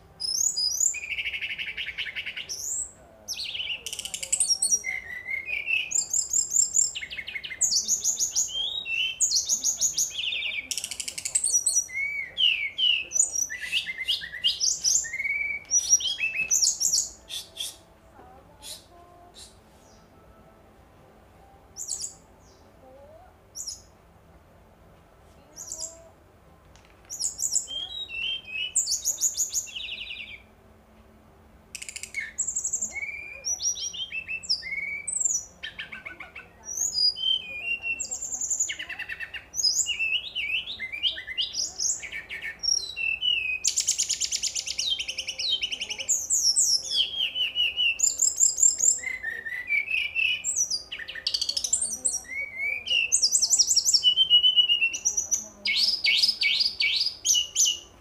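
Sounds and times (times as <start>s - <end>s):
bird singing chirps and trills: 0.0s - 20.3s, 21.4s - 24.0s, 25.4s - 26.2s, 27.0s - 30.5s, 31.8s - 58.0s.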